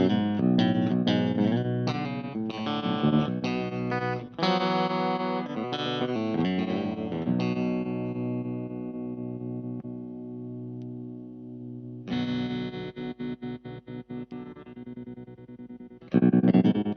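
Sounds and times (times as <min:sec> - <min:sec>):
electric guitar with tremolo: 0:00.0 - 0:16.9.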